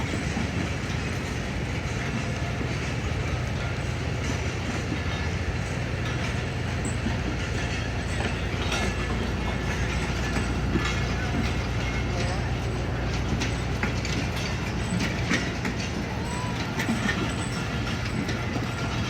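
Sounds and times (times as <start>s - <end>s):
train engine drone: 0.0s - 19.0s
wheels clacking over rails: 0.0s - 19.0s.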